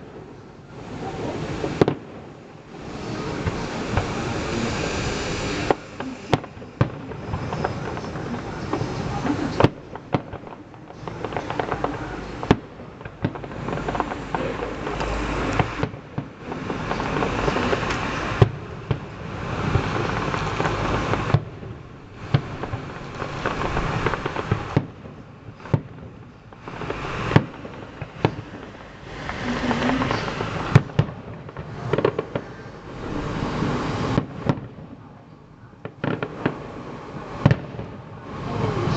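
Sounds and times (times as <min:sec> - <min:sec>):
fireworks bangs and booms: 0:00.0 - 0:38.9
fireworks crackling: 0:00.0 - 0:38.9.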